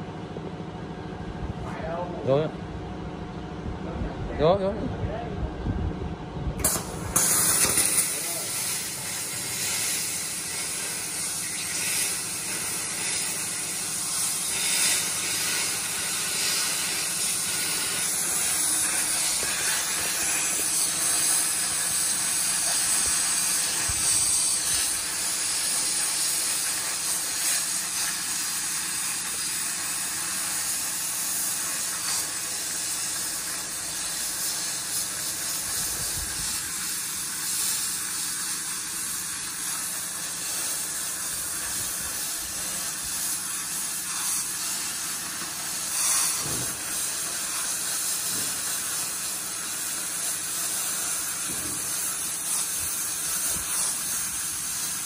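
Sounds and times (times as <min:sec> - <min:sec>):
plasma cutter hiss: 0:06.6 - 0:55.0.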